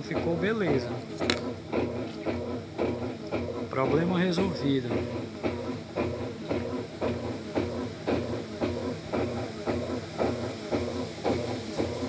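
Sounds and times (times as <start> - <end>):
agitator sloshing back and forth: 0.0 - 12.0
washing machine motor humming: 0.0 - 12.0.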